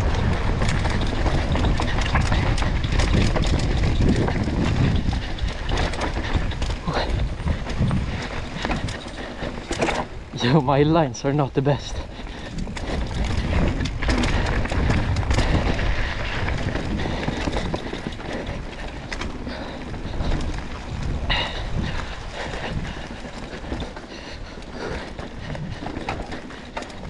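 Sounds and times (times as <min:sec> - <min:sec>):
bike clicks and knocks: 0:00.0 - 0:27.0
bike tyre noise: 0:00.0 - 0:27.0
wind on microphone: 0:00.0 - 0:27.0.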